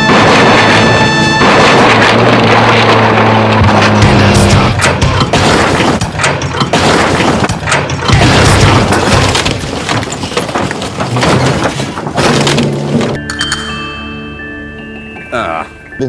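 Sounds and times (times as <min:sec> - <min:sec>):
glass shattering: 0:00.0 - 0:12.9
loud crashes: 0:00.0 - 0:13.2.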